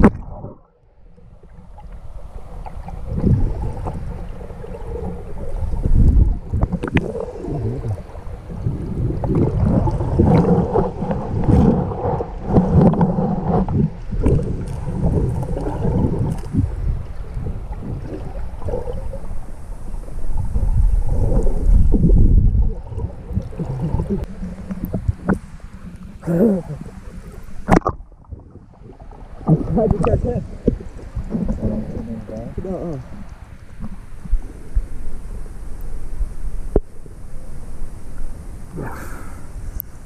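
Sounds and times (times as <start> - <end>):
muffled underwater sloshing: 0.0 - 40.0.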